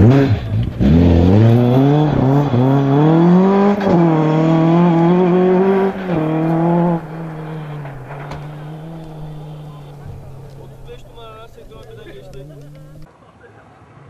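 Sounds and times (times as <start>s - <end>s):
rally car accelerating hard: 0.0s - 13.1s.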